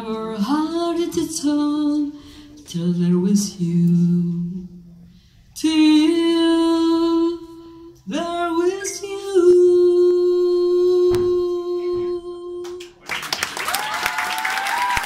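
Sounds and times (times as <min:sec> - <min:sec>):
woman singing unaccompanied: 0:00.0 - 0:04.9, 0:05.6 - 0:13.0.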